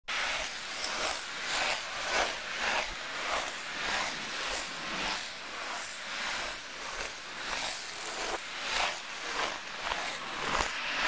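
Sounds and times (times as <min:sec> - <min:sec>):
ice skate blades scraping: 0:00.1 - 0:11.0.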